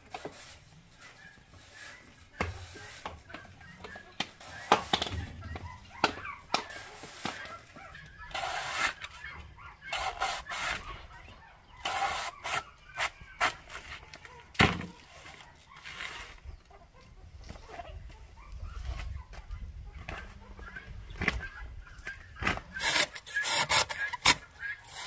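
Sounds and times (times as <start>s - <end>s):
chickens clucking and squawking: 0.0s - 25.0s.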